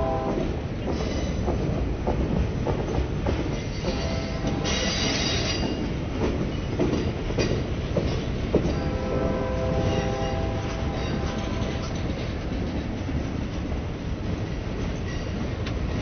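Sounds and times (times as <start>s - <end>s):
train rolling past with rumble: 0.0s - 16.0s.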